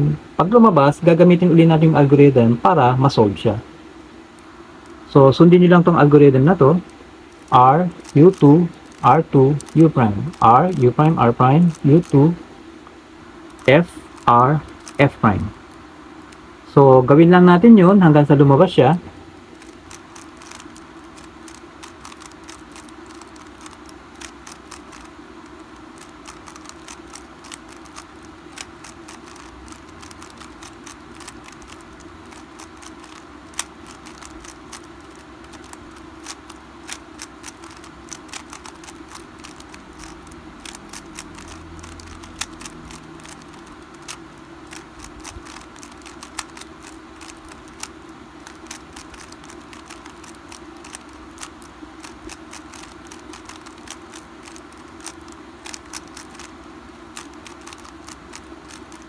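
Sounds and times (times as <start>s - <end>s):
faint steady hum: 0.0s - 59.0s
puzzle cube layers clicking: 4.4s - 12.4s, 13.4s - 16.4s, 19.5s - 59.0s.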